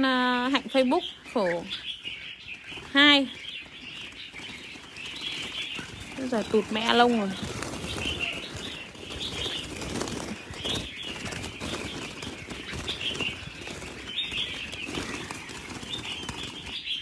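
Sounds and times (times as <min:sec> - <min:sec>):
birds flapping wings against mesh: 0:00.0 - 0:17.0.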